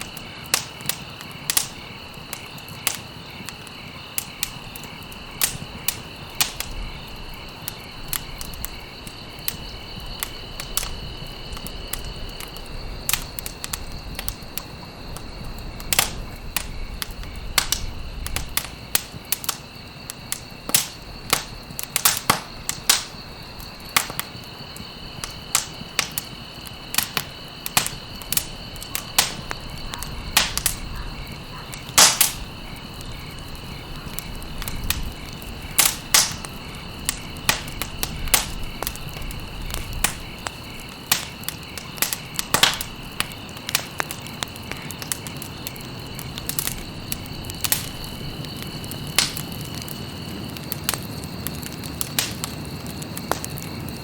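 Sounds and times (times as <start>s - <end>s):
campfire pops and crackles: 0.0s - 54.0s.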